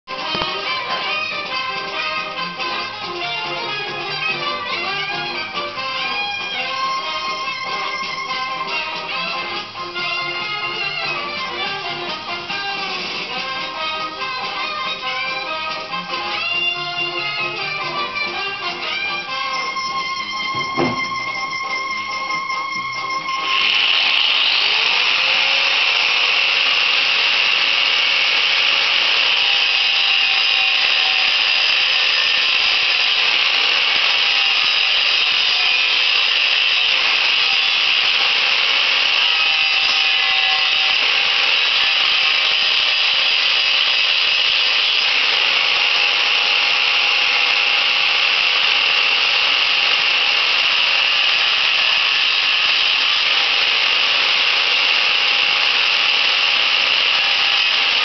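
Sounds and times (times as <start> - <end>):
motor-driven machine spinning: 0.1 - 58.0.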